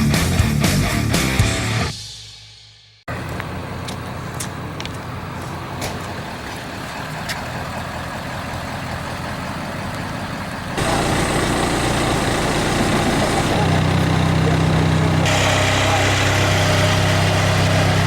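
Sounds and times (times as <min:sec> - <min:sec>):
heavy engine running: 0:03.1 - 0:18.0.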